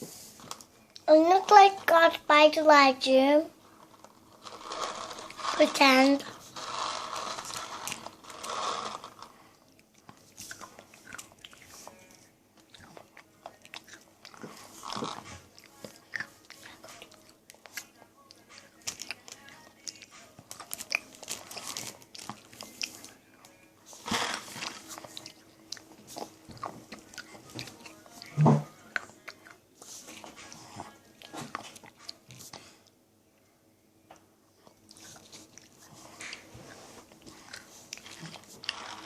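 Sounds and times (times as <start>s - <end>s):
child chewing and crunching food: 0.1s - 33.0s, 34.5s - 39.0s.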